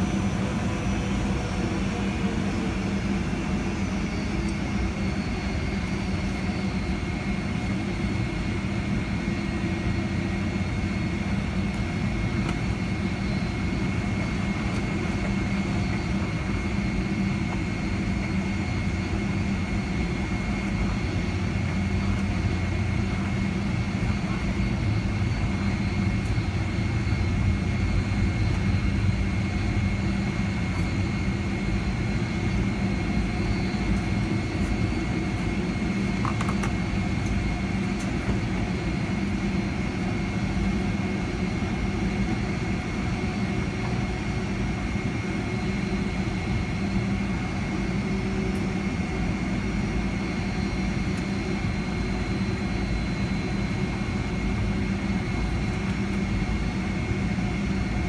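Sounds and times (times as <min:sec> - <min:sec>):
jet engines high whine: 0:00.0 - 0:58.0.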